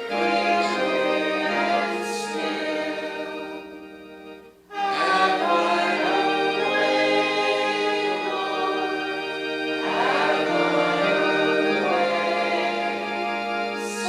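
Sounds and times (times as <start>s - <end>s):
congregation singing a hymn: 0.0s - 14.0s.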